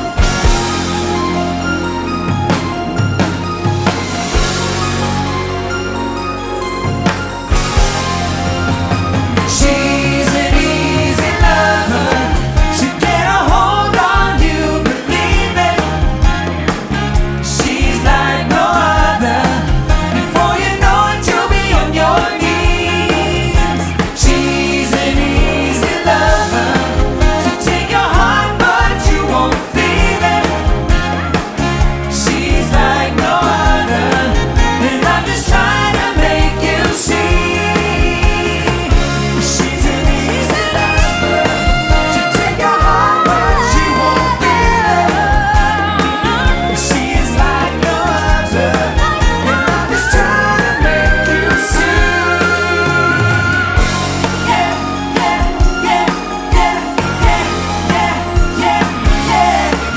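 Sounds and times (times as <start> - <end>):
pop band playing: 0.0 - 59.9
person singing: 9.4 - 31.6, 32.2 - 59.9.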